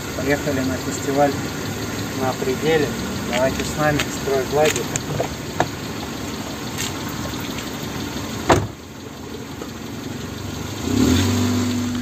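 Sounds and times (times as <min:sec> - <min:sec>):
road noise: 0:00.0 - 0:12.0
vehicle engine rumbling: 0:00.0 - 0:12.0.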